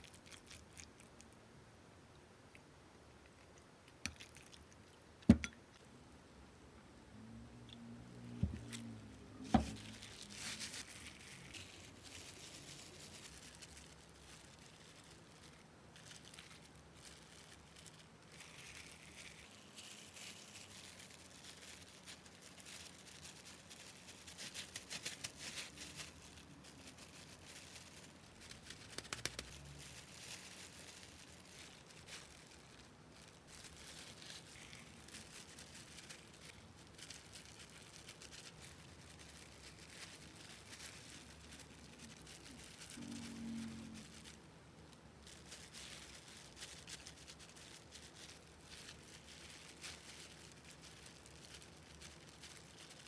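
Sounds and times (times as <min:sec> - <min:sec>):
plastic gloves crinkling: 0:00.0 - 0:01.4, 0:03.2 - 0:05.5, 0:07.2 - 0:53.0.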